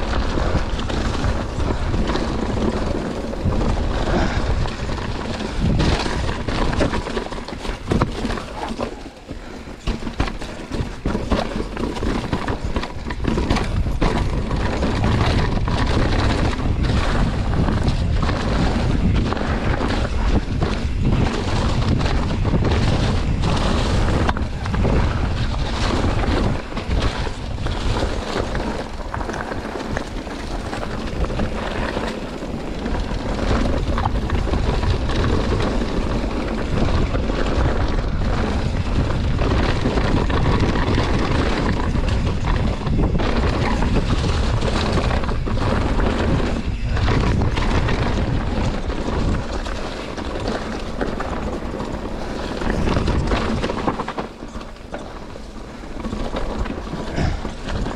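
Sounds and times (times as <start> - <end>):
bike tyres on rough trail: 0.0 - 57.9
wind buffeting microphone: 0.0 - 57.9.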